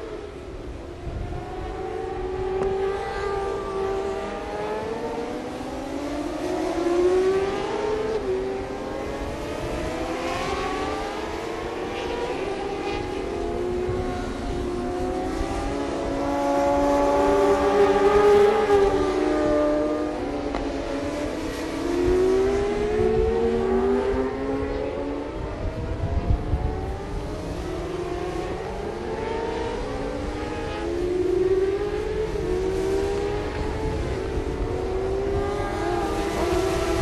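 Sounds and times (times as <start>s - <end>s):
racing motorcycle engines revving: 0.0s - 37.0s.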